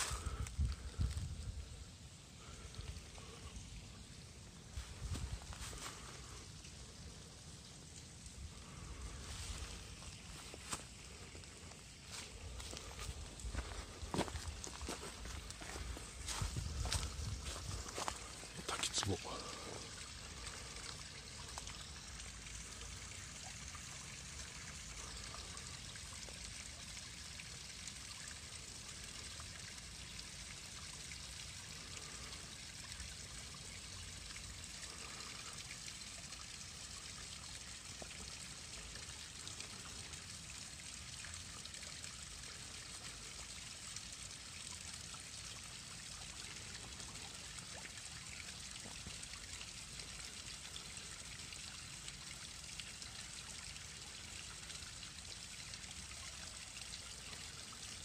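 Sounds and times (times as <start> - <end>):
small waterfall trickling: 0.0 - 58.0.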